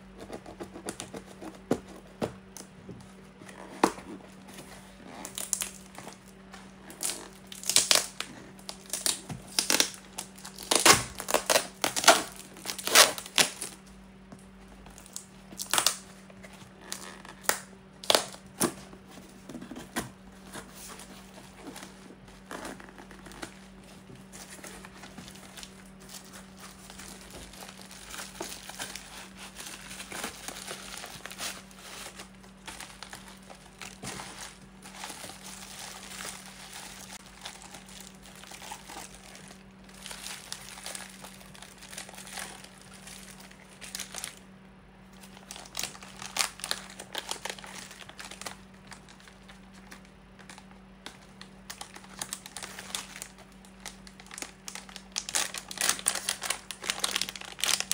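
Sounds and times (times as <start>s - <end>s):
bubble wrap crinkling: 0.0s - 57.9s
steady low hum: 0.0s - 57.9s.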